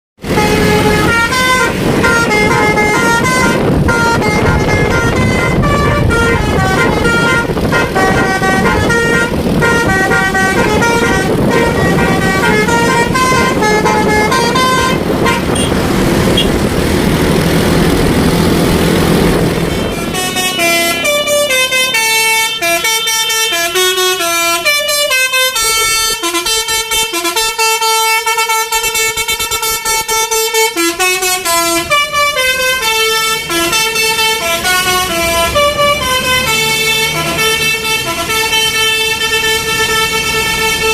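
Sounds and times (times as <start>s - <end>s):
multi-tone bus air horn melody: 0.2s - 16.7s, 19.2s - 40.9s
running vehicle noise: 0.2s - 40.9s.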